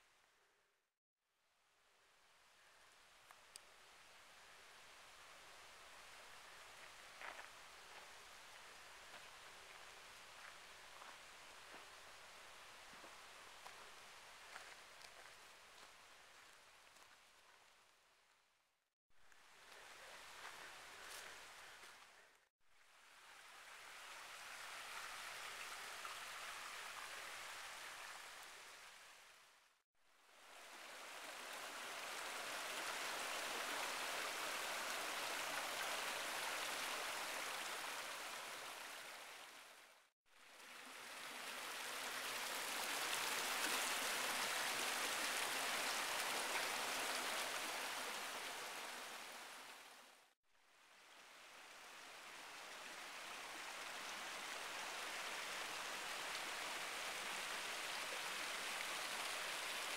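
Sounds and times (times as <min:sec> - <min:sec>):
creek water rushing: 0:02.3 - 0:17.6, 0:19.4 - 0:29.5, 0:30.2 - 0:50.3, 0:50.9 - 0:59.9.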